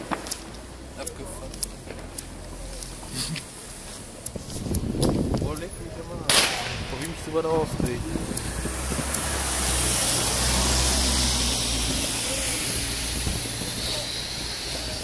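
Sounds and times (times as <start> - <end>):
rocket fuse fizzing hiss: 0.0 - 15.0.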